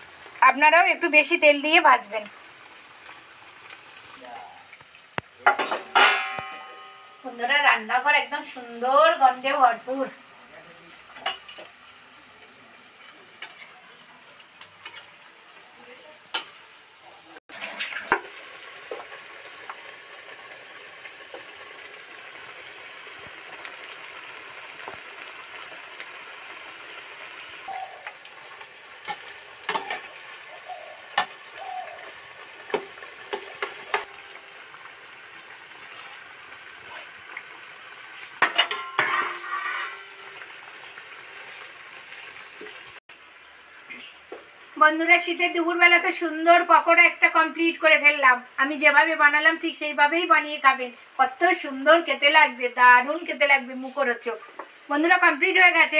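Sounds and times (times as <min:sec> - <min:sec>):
food deep-frying in bubbling oil: 0:00.0 - 0:55.9.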